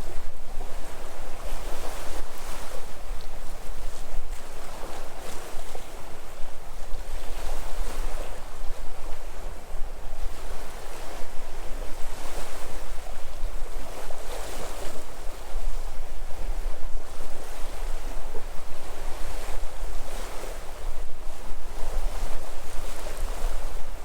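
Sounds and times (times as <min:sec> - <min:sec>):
wind on microphone rumble: 0:00.0 - 0:24.0.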